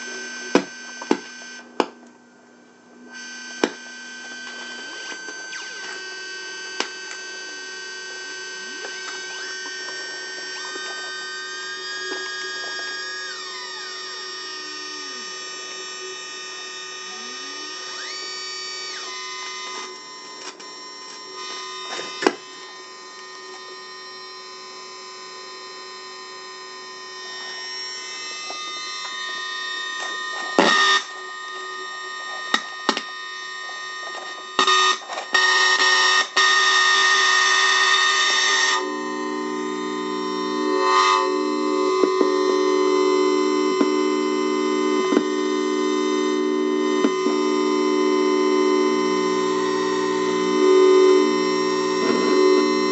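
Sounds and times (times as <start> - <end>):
loud harsh buzzing: 0.0 - 1.9, 2.7 - 52.9
synthesizer droning tones: 0.0 - 52.9.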